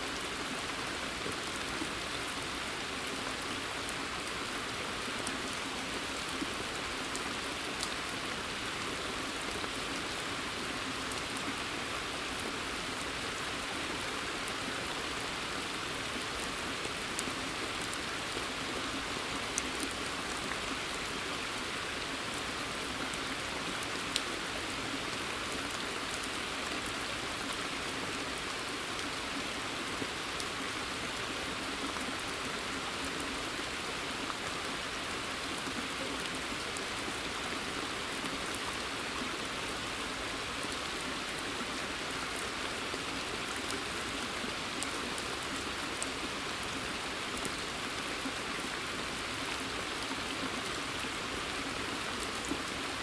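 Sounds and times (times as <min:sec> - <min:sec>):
rain falling on pond: 0:00.0 - 0:53.0.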